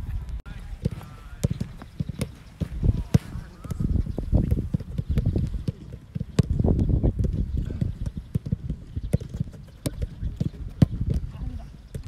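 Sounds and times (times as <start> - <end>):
footballs being kicked: 0.5 - 12.0.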